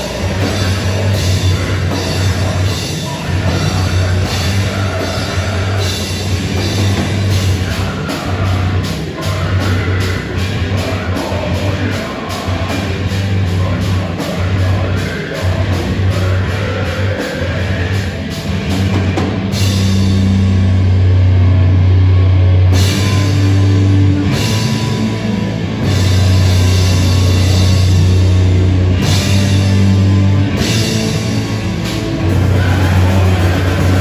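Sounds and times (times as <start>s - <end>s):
bass guitar: 0.0s - 34.0s
distorted electric guitars: 0.0s - 34.0s
drum kit: 0.0s - 34.0s.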